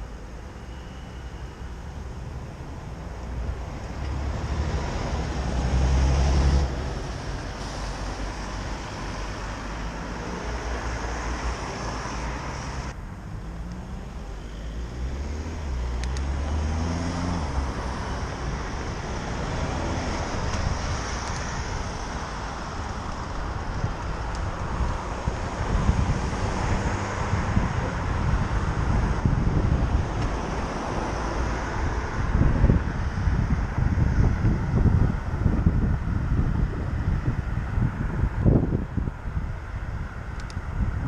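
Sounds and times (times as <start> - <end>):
road traffic noise: 0.0 - 41.0
vehicles passing rumble: 0.0 - 41.0.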